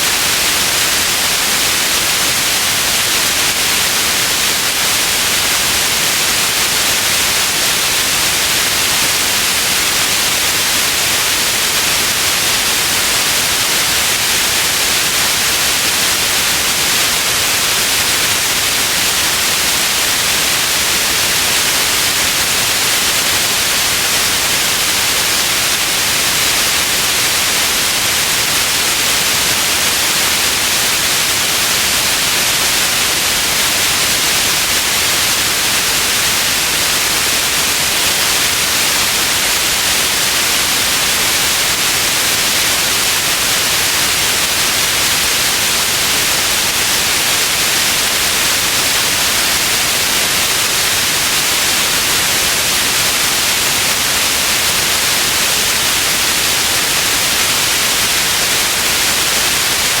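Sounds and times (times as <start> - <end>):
white noise hiss: 0.0 - 60.0.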